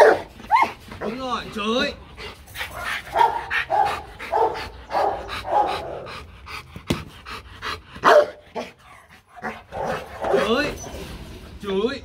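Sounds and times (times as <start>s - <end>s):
dog panting hard: 0.4s - 11.0s.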